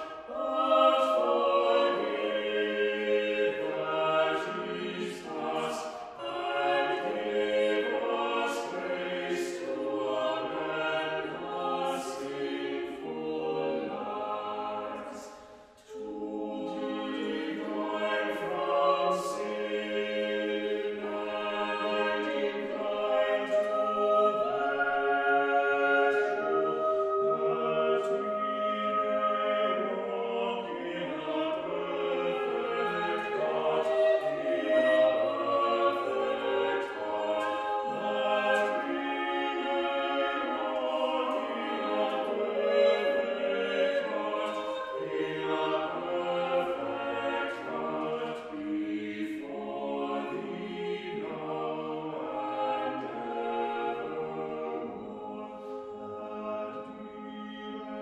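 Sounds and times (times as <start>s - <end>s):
small choir singing: 0.0s - 58.0s.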